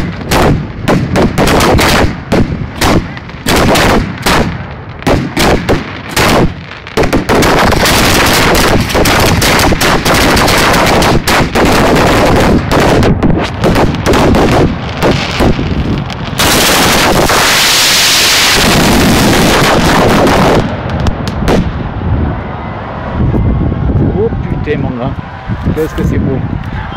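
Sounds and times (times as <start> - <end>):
fireworks bangs: 0.0 - 22.5.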